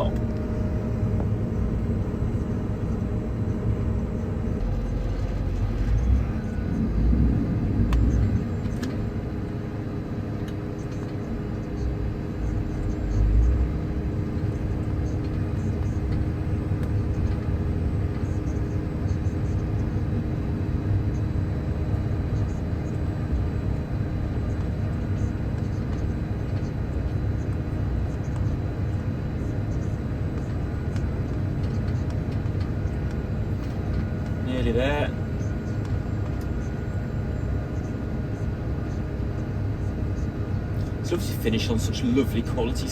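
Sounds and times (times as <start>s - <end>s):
harvester machine drone: 0.0s - 42.9s.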